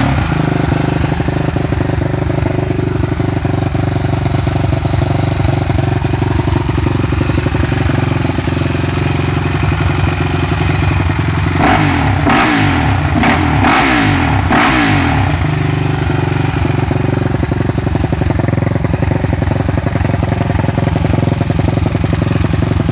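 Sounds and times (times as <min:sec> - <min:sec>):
quad engine idling and revving: 0:00.0 - 0:22.9.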